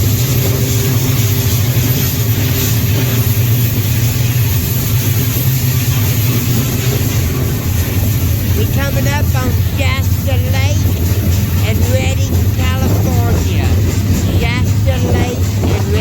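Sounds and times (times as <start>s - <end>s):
freight train rumbling: 0.0s - 16.0s.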